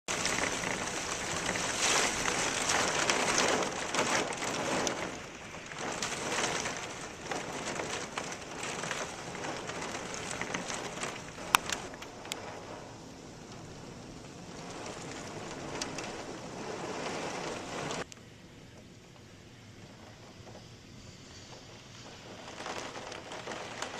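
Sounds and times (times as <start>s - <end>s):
gusting wind: 0.1s - 23.9s
raindrops crackling: 0.1s - 23.9s.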